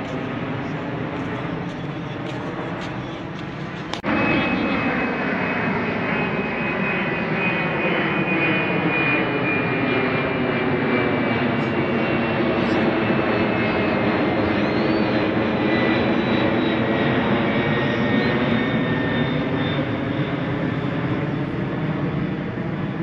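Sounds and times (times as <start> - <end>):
high engine whine: 0.0 - 23.0
jet airliner engines climbing: 0.0 - 23.0.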